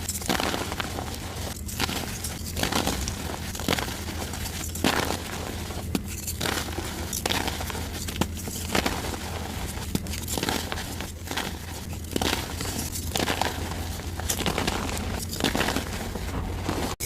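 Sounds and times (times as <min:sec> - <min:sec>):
chalk blocks crunching: 0:00.0 - 0:17.0.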